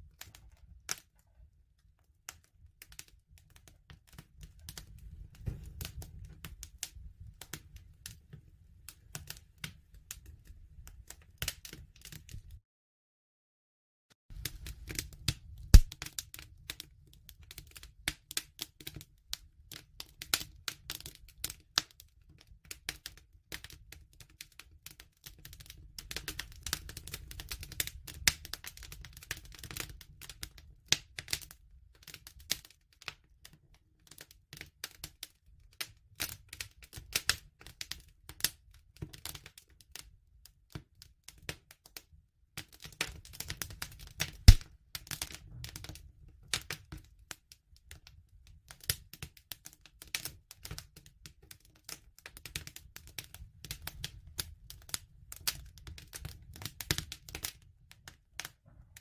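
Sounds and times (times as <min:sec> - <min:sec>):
wood fire crackling: 0:00.0 - 0:12.6, 0:14.3 - 0:35.2, 0:42.6 - 0:48.1, 0:48.7 - 0:59.0.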